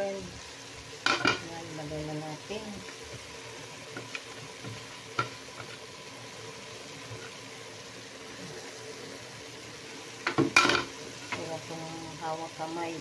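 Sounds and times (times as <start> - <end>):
meat and corn sizzling in a pot: 0.0 - 13.0.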